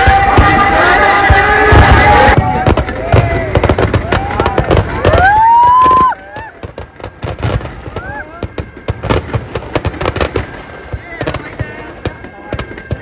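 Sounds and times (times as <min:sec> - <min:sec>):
crowd voices: 0:00.0 - 0:13.0
firecrackers popping: 0:00.0 - 0:13.0.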